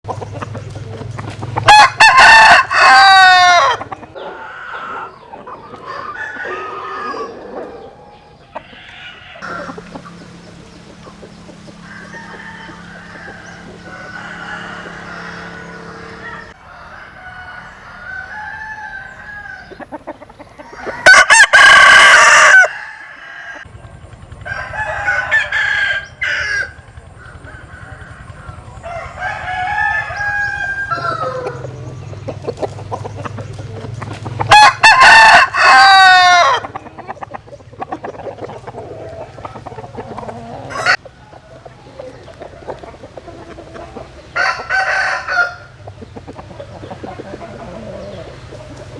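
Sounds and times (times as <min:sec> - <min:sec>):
chicken clucks and calls: 0:00.0 - 0:48.9
roosters crowing: 0:00.1 - 0:48.9.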